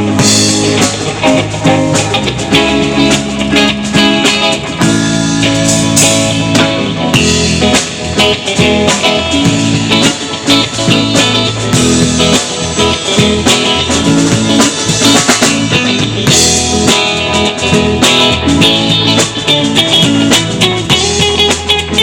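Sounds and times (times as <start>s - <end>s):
bass: 0.0s - 22.0s
drum kit: 0.0s - 22.0s
guitar: 0.0s - 22.0s.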